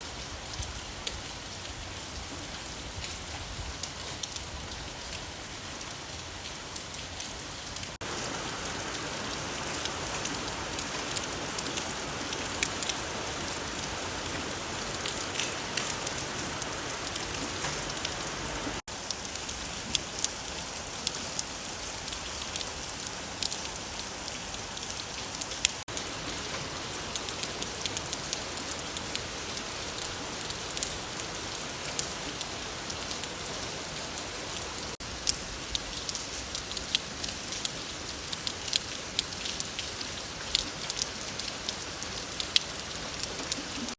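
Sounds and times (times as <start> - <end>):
raindrops ticking close by: 0.0 - 43.9
steady rain hiss: 0.0 - 43.9.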